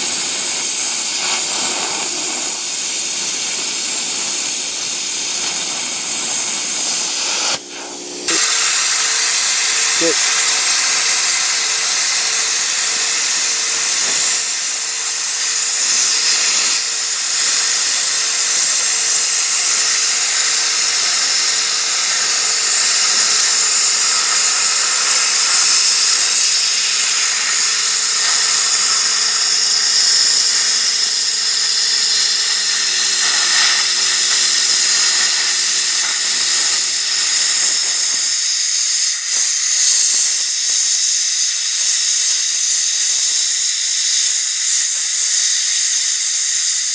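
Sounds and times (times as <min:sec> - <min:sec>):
plasma cutter hissing: 0:00.0 - 0:46.9.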